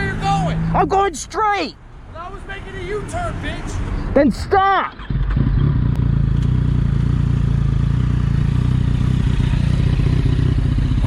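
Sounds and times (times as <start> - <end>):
vehicle engine droning: 0.0 - 4.2, 4.9 - 11.0.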